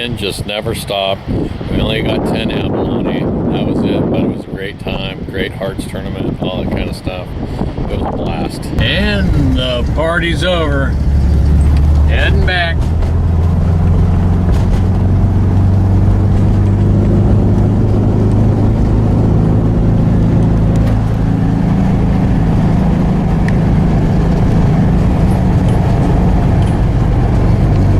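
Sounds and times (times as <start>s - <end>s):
car engine hum: 0.0s - 27.9s
road noise: 0.0s - 27.9s.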